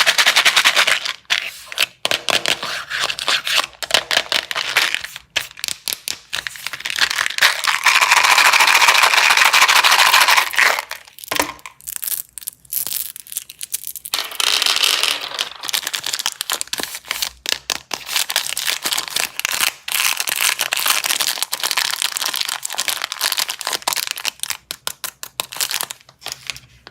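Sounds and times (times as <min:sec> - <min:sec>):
plastic wrappers crinkling: 0:03.8 - 0:26.9.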